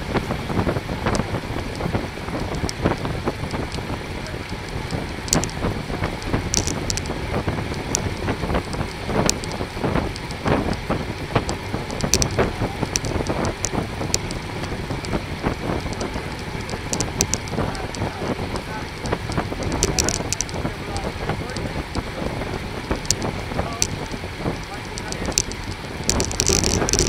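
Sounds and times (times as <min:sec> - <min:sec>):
bicycle road noise: 0:00.0 - 0:27.0
wind buffeting microphone: 0:00.0 - 0:27.0
short clicks and crackles: 0:02.5 - 0:15.2, 0:15.8 - 0:22.1, 0:22.8 - 0:27.0.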